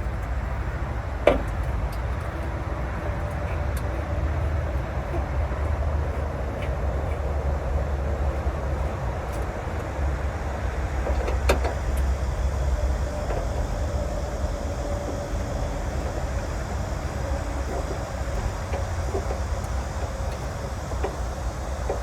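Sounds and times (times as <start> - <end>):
motor vehicle rumbling: 0.0 - 22.0.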